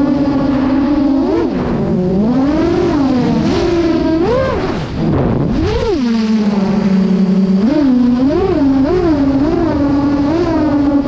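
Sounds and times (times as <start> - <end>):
drone motors humming: 0.0 - 11.0.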